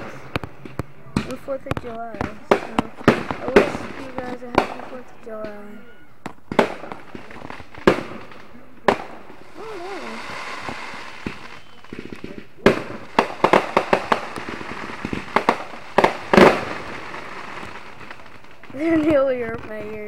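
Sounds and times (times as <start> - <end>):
firework bangs: 0.0 - 20.0
firework crackling: 0.0 - 20.0
rapid firework reports: 0.0 - 20.0.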